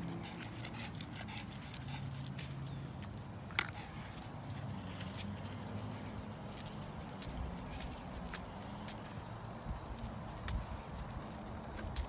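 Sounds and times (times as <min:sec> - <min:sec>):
dog claws tapping on pavement: 0:00.0 - 0:12.0.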